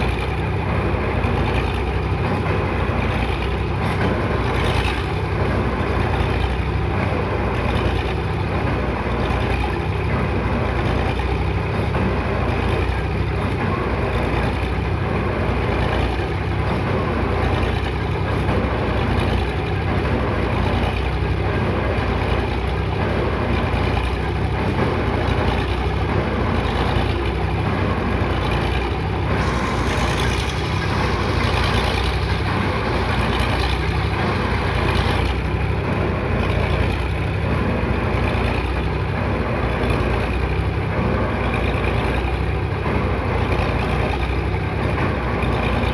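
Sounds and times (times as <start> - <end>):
piling machine engine running: 0.0 - 45.9.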